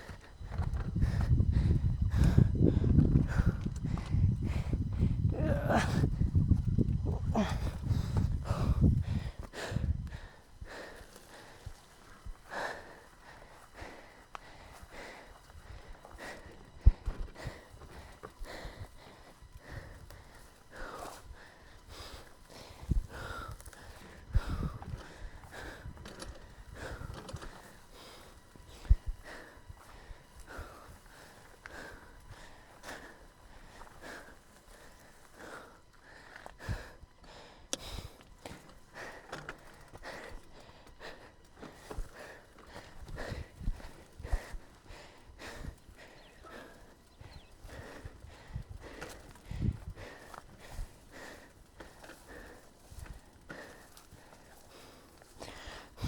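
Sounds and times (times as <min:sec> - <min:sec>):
person breathing hard: 0:00.0 - 0:56.0.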